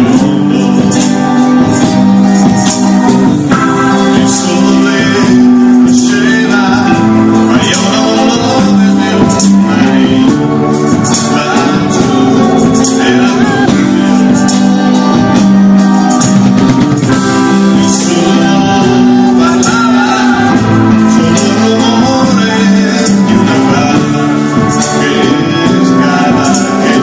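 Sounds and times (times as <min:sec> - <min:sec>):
acoustic and electric guitars: 0:00.0 - 0:27.0
man singing: 0:00.0 - 0:27.0
percussion hits: 0:00.0 - 0:27.0.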